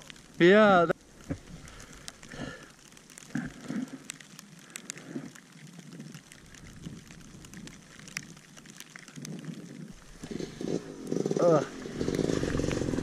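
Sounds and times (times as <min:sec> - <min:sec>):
hail ticking on helmet: 0:00.0 - 0:13.0.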